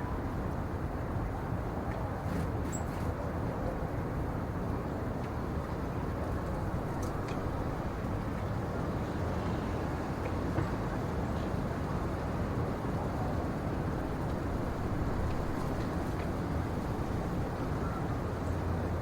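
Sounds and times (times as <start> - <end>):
wind in pine forest: 0.0 - 19.0.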